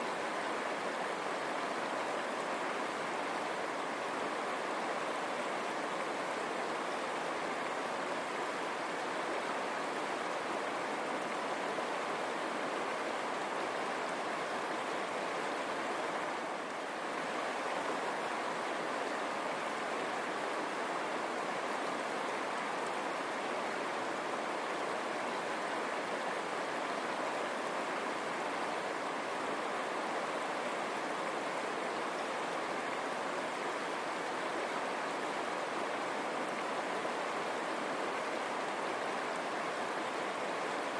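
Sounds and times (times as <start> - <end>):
river rushing over stones: 0.0 - 40.9.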